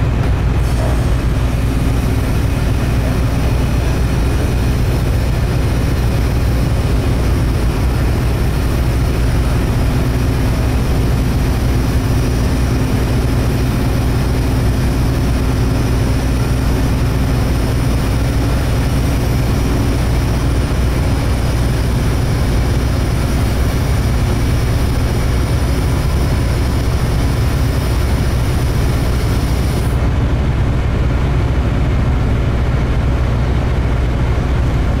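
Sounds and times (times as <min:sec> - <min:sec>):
ferry diesel engines droning: 0:00.0 - 0:35.0.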